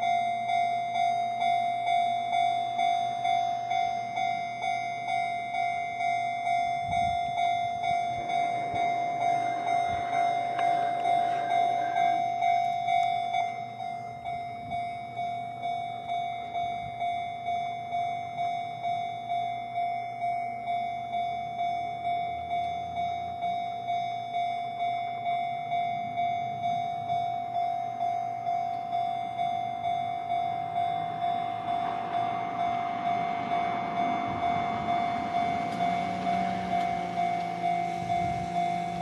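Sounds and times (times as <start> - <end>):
railroad crossing warning bell: 0.0 - 39.0.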